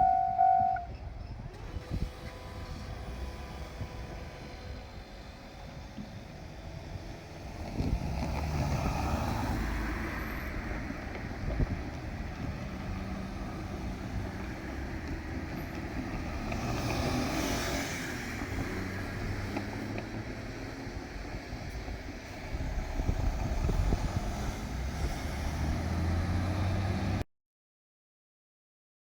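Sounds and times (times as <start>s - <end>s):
diesel train engine rumbling: 0.0s - 8.3s, 9.5s - 26.6s.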